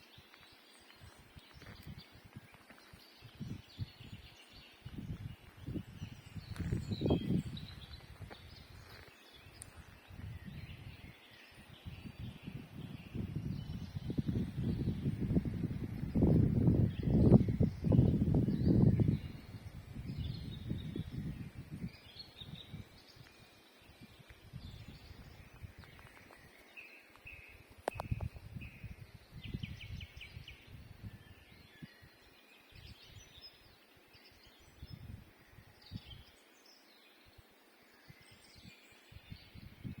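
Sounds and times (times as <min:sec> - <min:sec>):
songbirds singing and chirping: 0:00.0 - 0:40.0.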